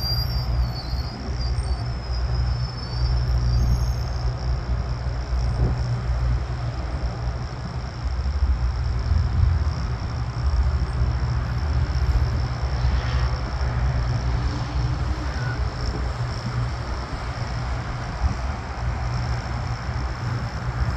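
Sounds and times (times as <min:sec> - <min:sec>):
distant jet engine rumble: 0:00.0 - 0:20.9.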